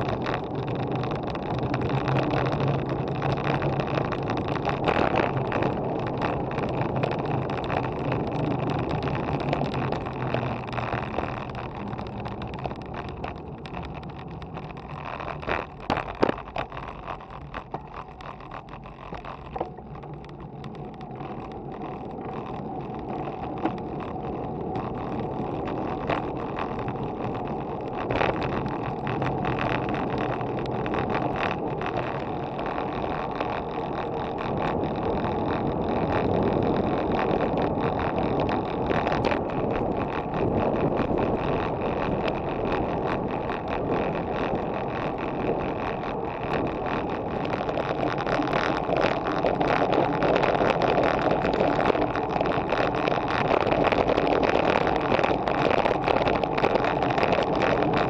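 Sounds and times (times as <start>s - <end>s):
bike road noise: 0.0s - 58.0s
wind on microphone: 0.0s - 58.0s.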